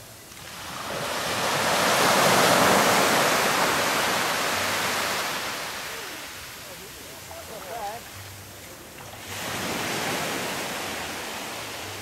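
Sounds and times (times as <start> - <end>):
wave breaking on shore: 0.0 - 8.1, 9.2 - 12.0.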